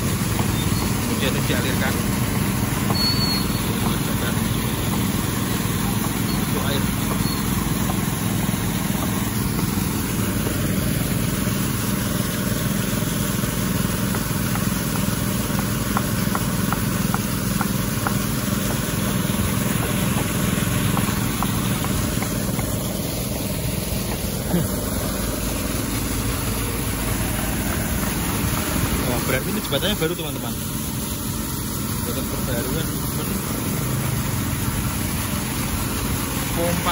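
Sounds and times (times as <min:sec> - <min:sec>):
water gushing and splashing: 0:00.0 - 0:36.9
water pump engines running: 0:00.0 - 0:36.9.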